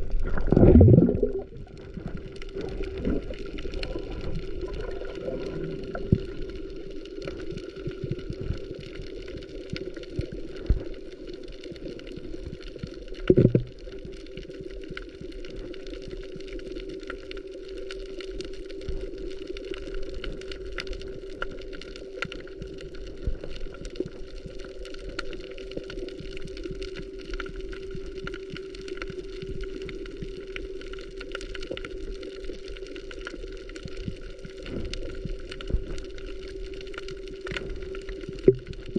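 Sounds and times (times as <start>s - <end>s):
sharp clicks and crackles: 0.0s - 38.9s
underwater droning hum: 0.0s - 38.9s.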